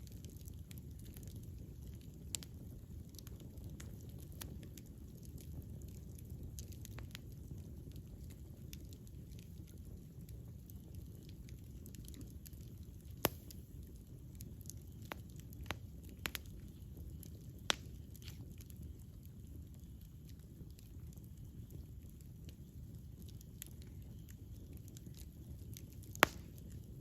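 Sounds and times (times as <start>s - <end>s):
campfire rumble: 0.0s - 27.0s
fire crackles and pops: 0.0s - 27.0s.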